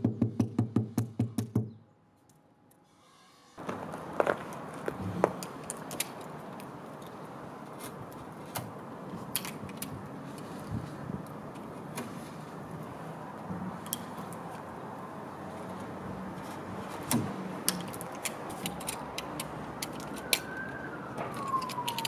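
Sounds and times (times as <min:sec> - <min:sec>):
steady background noise: 0:02.0 - 0:22.0.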